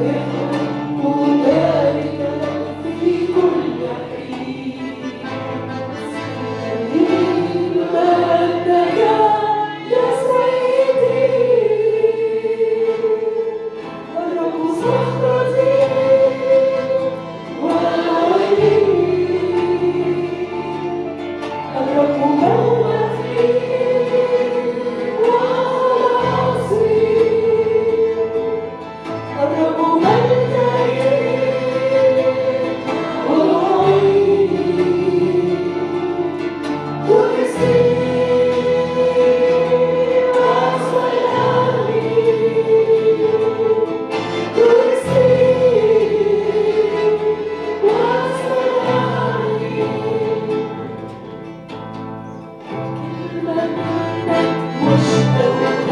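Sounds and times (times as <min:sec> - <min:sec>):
instrumental accompaniment: 0:00.0 - 0:55.9
voices singing a hymn: 0:00.0 - 0:55.9.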